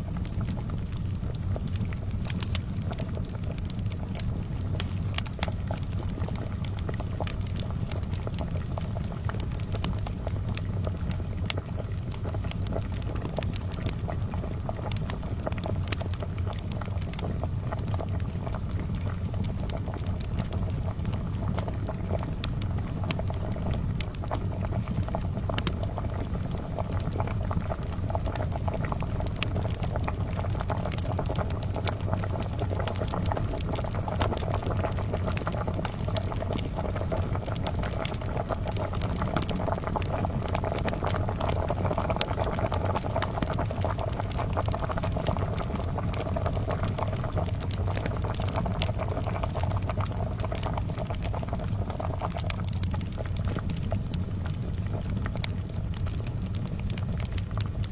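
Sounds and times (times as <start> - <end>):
charcoal fire crackling: 0.0 - 57.9
kettle water boiling: 0.0 - 57.9.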